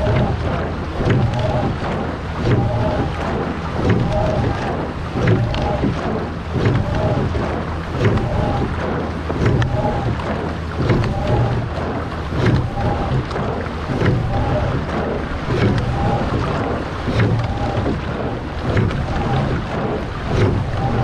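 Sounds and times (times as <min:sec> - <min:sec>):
oars knocking in oarlocks: 0:00.0 - 0:21.0
water rushing along hull: 0:00.0 - 0:21.0
wind on microphone: 0:00.0 - 0:21.0.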